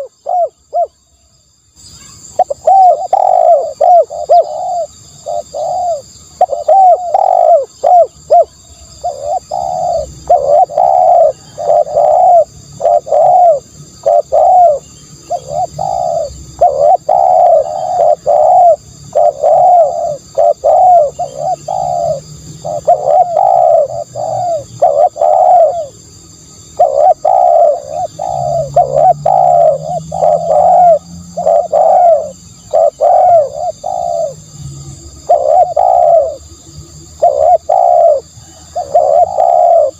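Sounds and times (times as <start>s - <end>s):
dove cooing: 0.0s - 1.0s, 2.2s - 34.5s, 35.2s - 39.9s.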